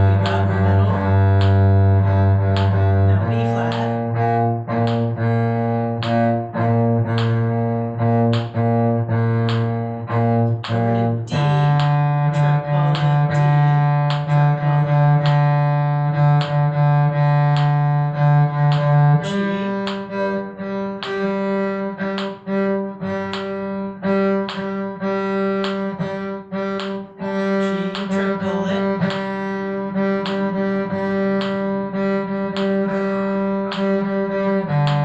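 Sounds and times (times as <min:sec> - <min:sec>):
bowed string instrument repeated notes: 0:00.0 - 0:35.0.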